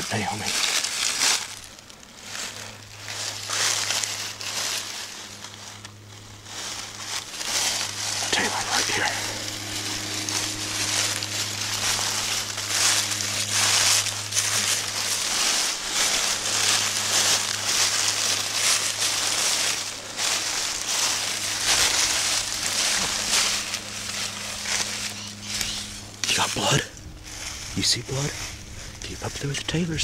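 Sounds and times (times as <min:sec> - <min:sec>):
footsteps in dry leaves: 0:00.0 - 0:30.0
steady low hum: 0:00.0 - 0:30.0.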